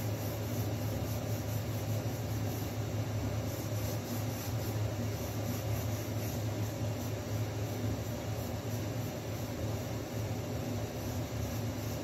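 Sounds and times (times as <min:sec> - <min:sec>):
machine hum with hiss: 0:00.0 - 0:12.0.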